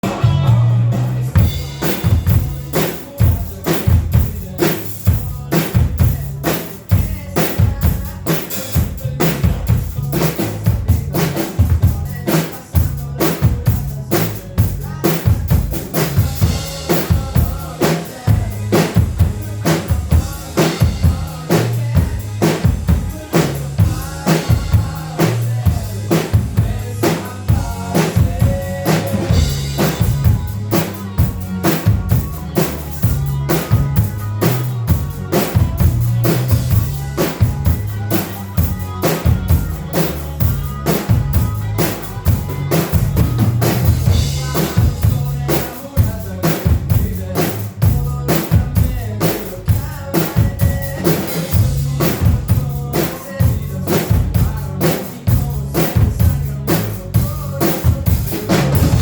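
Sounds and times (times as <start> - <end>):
bass line: 0.0 - 59.0.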